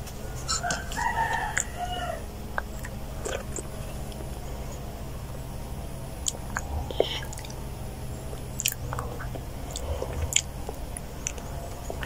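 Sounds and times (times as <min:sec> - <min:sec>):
child chewing: 0:00.0 - 0:12.0.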